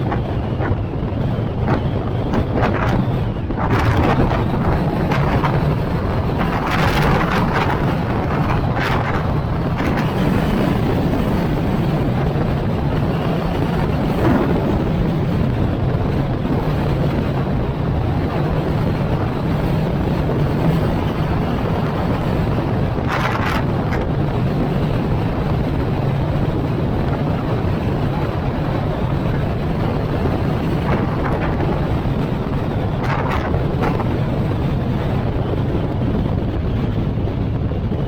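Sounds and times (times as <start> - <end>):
car driving drone: 0.0 - 38.0
wind buffeting microphone: 0.0 - 38.0.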